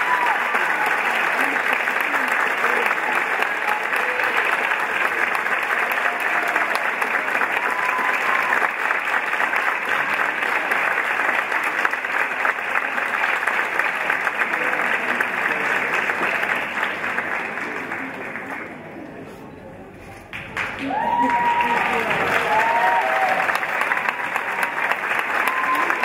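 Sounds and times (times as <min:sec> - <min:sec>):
audience applauding: 0:00.0 - 0:19.0, 0:20.3 - 0:26.0.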